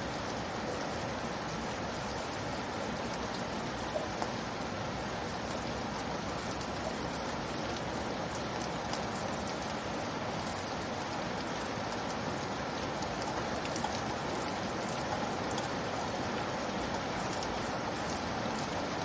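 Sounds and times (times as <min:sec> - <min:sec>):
light rainfall: 0:00.0 - 0:19.0
raindrop ticks: 0:00.1 - 0:19.0.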